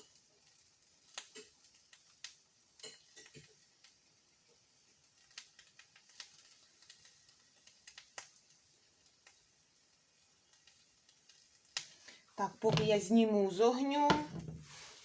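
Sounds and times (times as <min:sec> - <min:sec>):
dough sizzling in a pan: 0:00.0 - 0:15.0.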